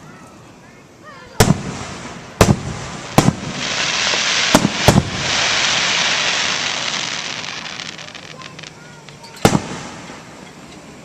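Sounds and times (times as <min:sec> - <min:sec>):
loud firework hiss: 0:00.0 - 0:11.0
firework shells bursting: 0:01.4 - 0:10.9.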